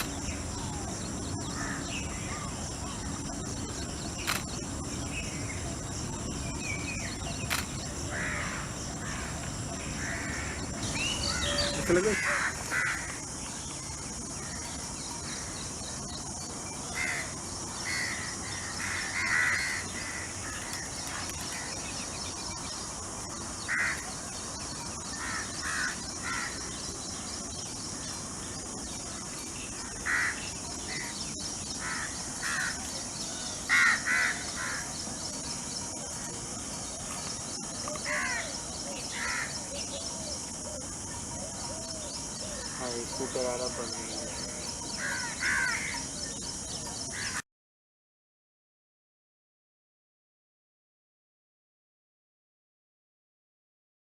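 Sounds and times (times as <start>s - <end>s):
birds calling: 0.0s - 47.4s
steady high-pitched hiss: 0.0s - 47.4s.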